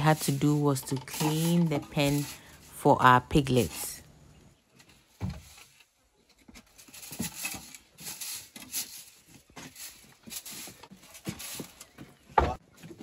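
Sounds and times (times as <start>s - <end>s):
broom sweeping concrete floor: 0.0s - 4.0s, 6.6s - 13.0s.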